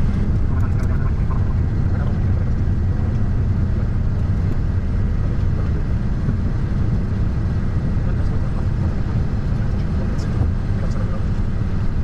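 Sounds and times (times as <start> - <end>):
low rumble in aircraft cockpit: 0.0 - 12.0.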